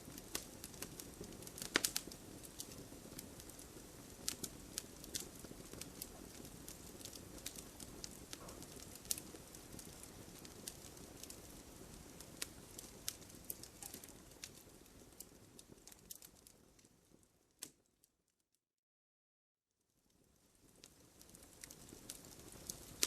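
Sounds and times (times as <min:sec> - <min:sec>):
burning logs popping: 0:00.0 - 0:17.0, 0:20.6 - 0:23.0
steady hiss of flame: 0:00.0 - 0:17.8, 0:19.8 - 0:23.0
wood fire crackling: 0:00.0 - 0:17.9, 0:19.9 - 0:23.0.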